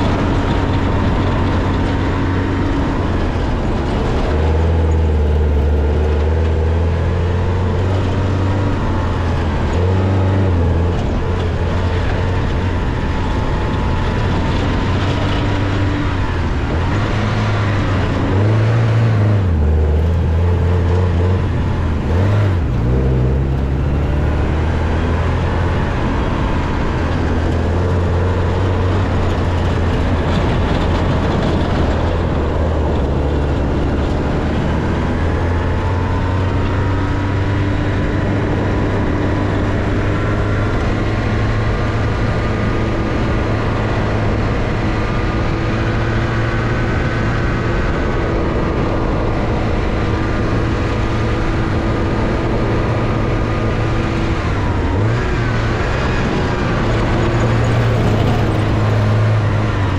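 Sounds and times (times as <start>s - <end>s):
car engine running: 0.0s - 59.9s
tyres rushing on loose dirt: 0.0s - 59.9s.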